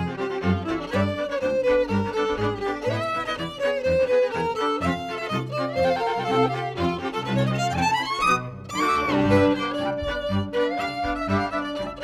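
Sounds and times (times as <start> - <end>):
cello bass line: 0.0 - 12.0
clarinet melody: 0.0 - 12.0
violin melody: 0.0 - 12.0.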